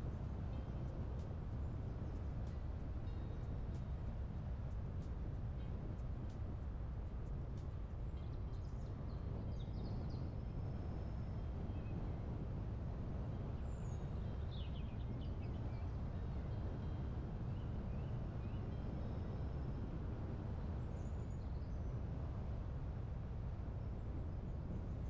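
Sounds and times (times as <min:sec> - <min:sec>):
low wind noise: 0:00.0 - 0:25.0.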